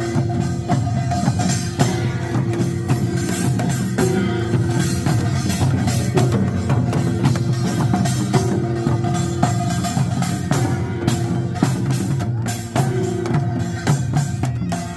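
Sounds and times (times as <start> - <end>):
drum and percussion strokes: 0.0 - 14.9.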